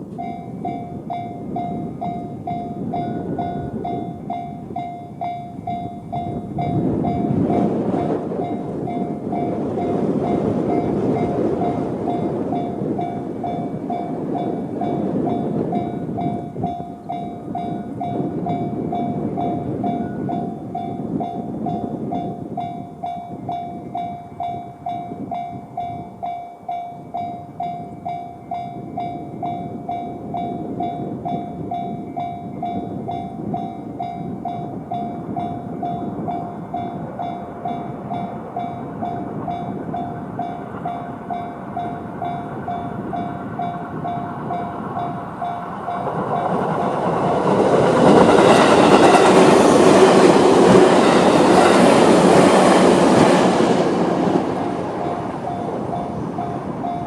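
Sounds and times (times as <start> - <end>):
train wheels rumbling on rails: 0.0 - 57.0
level-crossing electronic bell: 0.2 - 46.9, 54.6 - 57.0.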